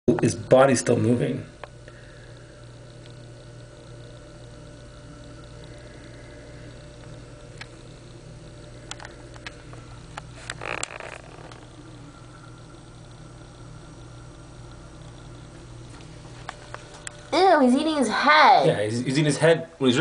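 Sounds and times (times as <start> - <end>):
low background hum: 0.1 - 20.0.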